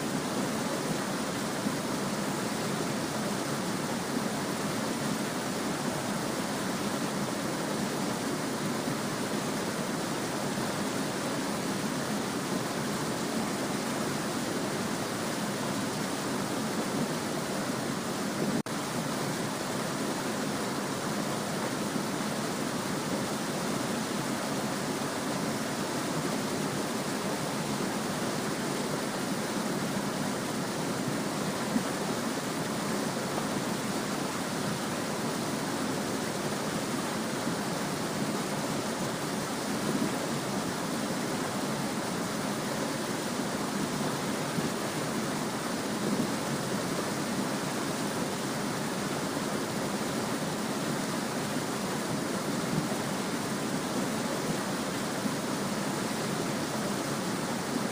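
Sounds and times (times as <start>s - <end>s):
stream babbling over stones: 0.0s - 57.9s.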